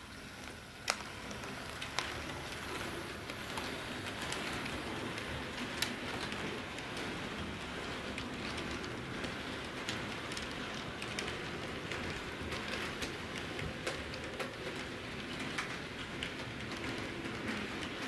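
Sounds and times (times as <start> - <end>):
model train whirring: 0.0 - 18.0
wheels clicking on rails: 0.0 - 18.0.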